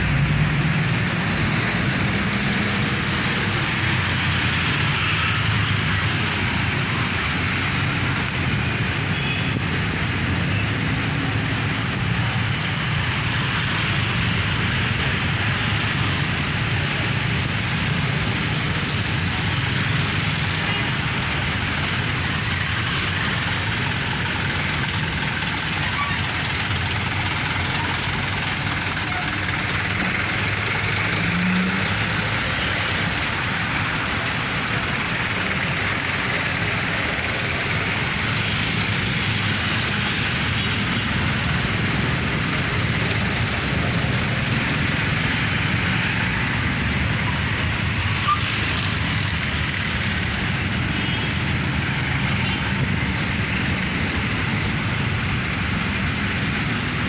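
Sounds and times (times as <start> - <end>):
heavy road traffic: 0.0 - 57.0.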